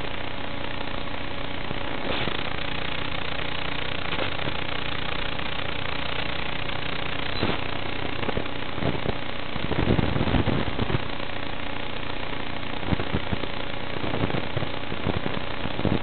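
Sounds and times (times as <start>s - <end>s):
crackles and pops: 0.0s - 16.0s.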